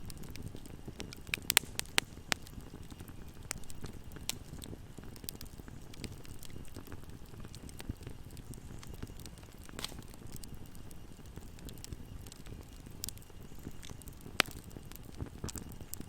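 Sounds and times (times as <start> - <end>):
low rumble of burning fire: 0.0 - 16.0
wood fire pops and snaps: 0.0 - 16.0.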